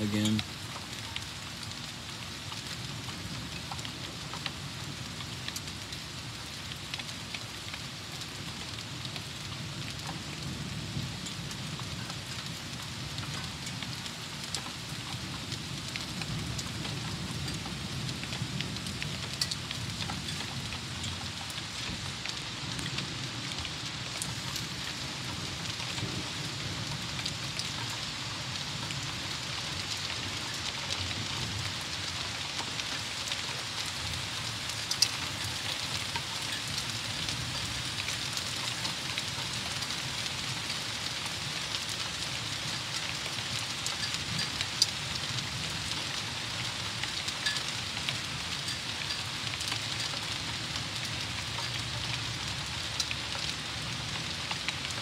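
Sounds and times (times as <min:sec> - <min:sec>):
sharp raindrop ticks: 0:00.0 - 0:55.0
steady rain falling: 0:00.0 - 0:55.0.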